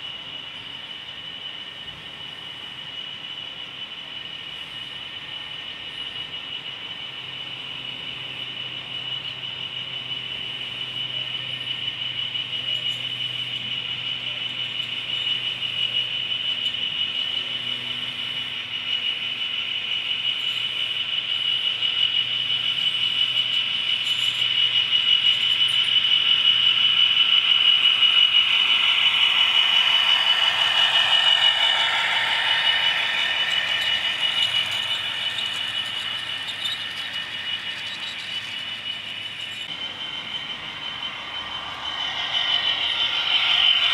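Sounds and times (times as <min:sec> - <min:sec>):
model train whine: 0:00.0 - 0:43.9
rattle of train wheels: 0:00.0 - 0:43.9.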